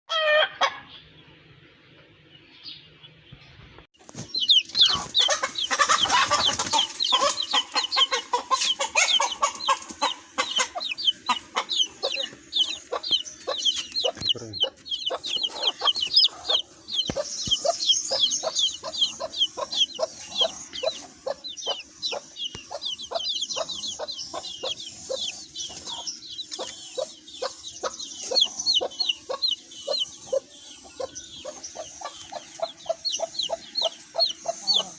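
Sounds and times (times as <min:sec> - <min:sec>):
chickens clucking: 0:04.0 - 0:34.9.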